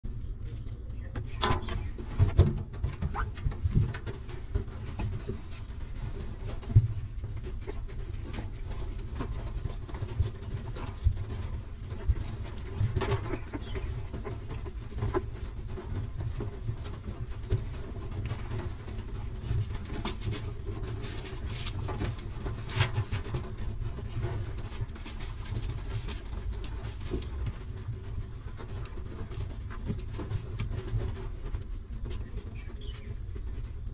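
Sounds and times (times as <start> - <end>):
short rustles and knocks: 0.1 - 33.9.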